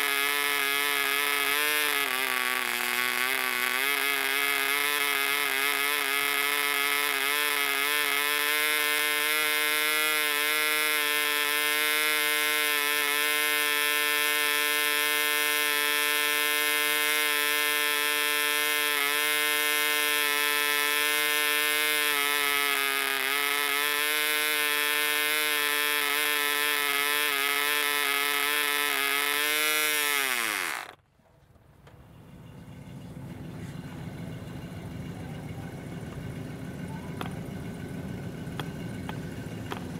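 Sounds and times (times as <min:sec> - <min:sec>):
model airplane engine buzzing: 0:00.0 - 0:31.0, 0:31.8 - 0:39.9.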